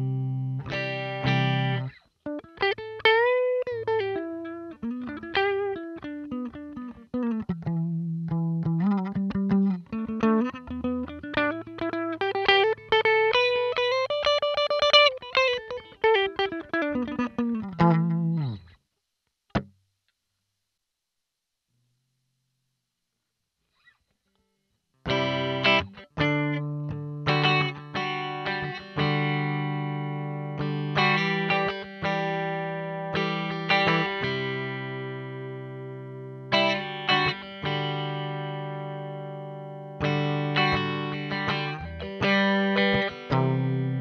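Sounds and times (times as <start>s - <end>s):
clean electric guitar playing: 0.0s - 18.8s, 25.1s - 44.0s.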